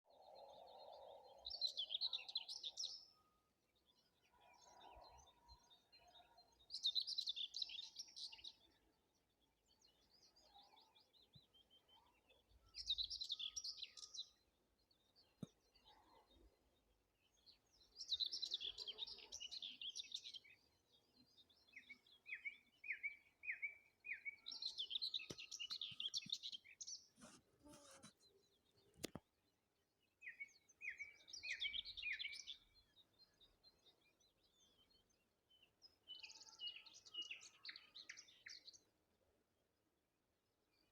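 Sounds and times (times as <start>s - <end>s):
songbird singing: 0.0s - 39.3s.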